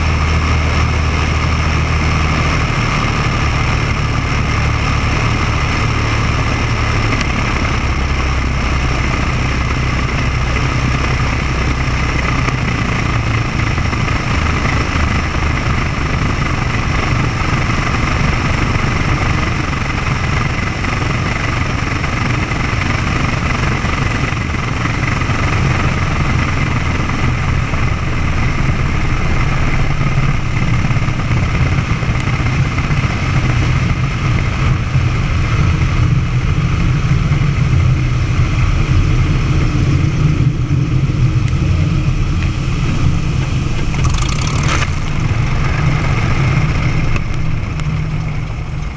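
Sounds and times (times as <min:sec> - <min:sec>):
floatplane engine and propeller: 0:00.0 - 0:48.9.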